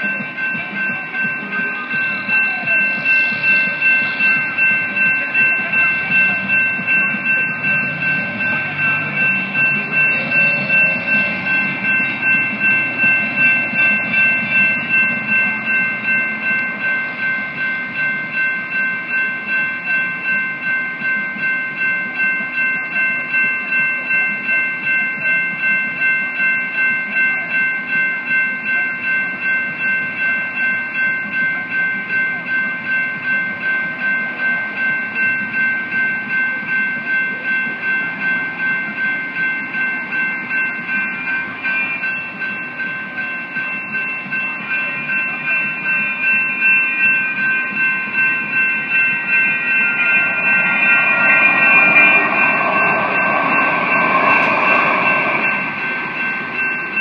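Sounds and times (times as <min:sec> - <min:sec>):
electronic crossing bells ringing: 0:00.0 - 0:57.0.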